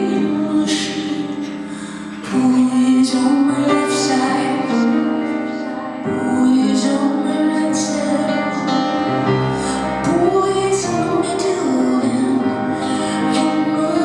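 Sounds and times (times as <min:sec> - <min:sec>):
sustained keyboard accompaniment: 0:00.0 - 0:14.0
woman singing: 0:00.0 - 0:14.0.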